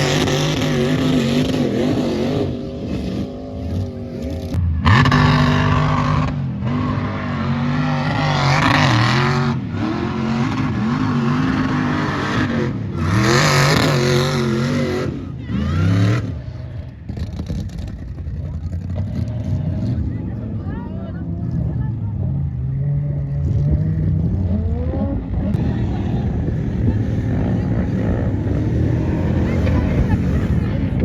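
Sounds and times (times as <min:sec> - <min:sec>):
off-road engines revving hard: 0:00.0 - 0:31.0.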